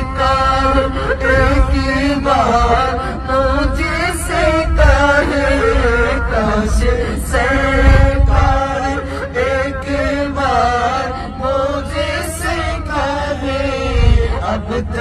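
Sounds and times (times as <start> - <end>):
low humming drone: 0.0 - 15.0
men singing in chorus: 0.0 - 15.0.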